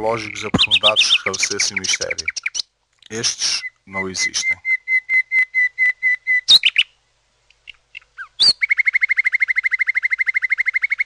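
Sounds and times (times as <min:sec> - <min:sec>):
bird chirping and trilling: 0:00.0 - 0:11.0.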